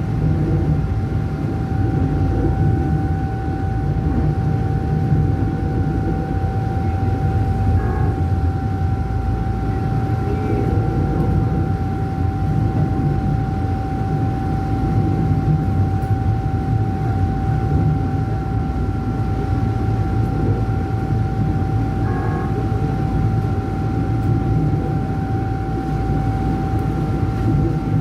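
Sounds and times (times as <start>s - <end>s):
constant high whine: 0.0s - 28.0s
train rumbling on track: 0.0s - 28.0s.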